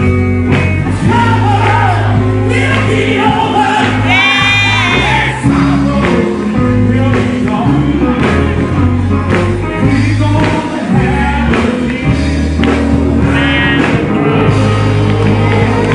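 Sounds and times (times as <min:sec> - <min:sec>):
band playing gospel music: 0:00.0 - 0:15.9
people singing: 0:00.9 - 0:08.7, 0:09.8 - 0:15.9.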